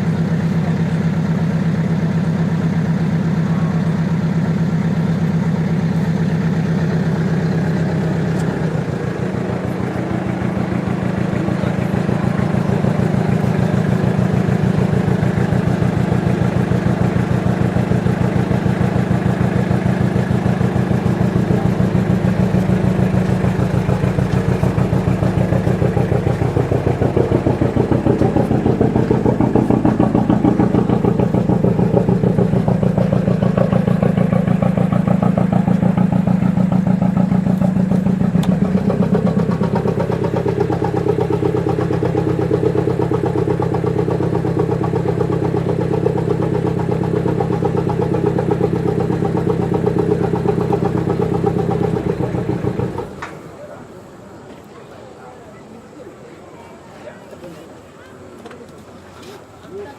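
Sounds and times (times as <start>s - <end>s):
engine running with rapid pulsing: 0.0s - 54.5s.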